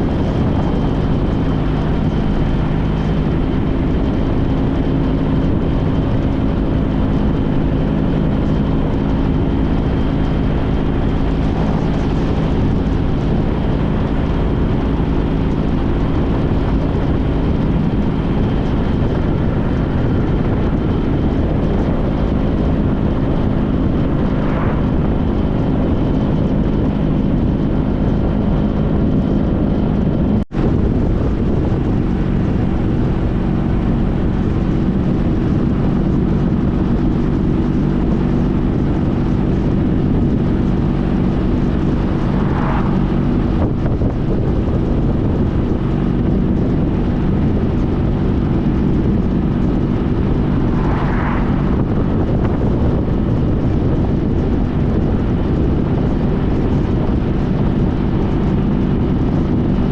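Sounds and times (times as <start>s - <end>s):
motorcycle engine running: 0.0s - 59.9s
road noise: 0.0s - 59.9s
wind noise on microphone: 0.0s - 59.9s.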